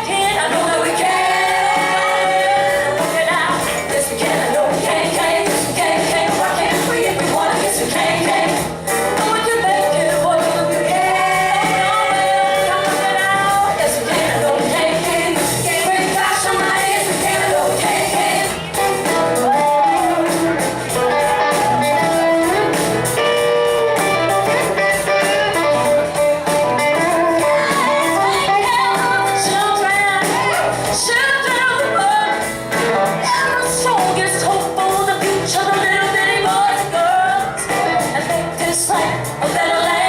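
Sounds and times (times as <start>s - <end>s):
woman singing: 0.0s - 20.6s, 27.0s - 40.0s
live band playing: 0.0s - 40.0s.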